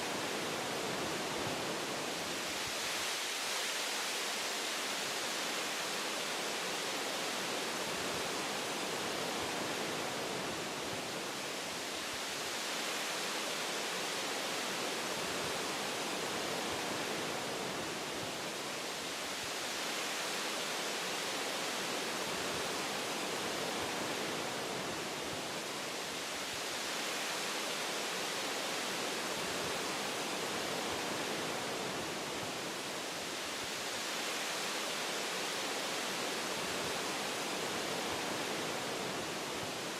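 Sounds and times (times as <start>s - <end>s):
wind rushing through tree branches: 0.0s - 39.9s.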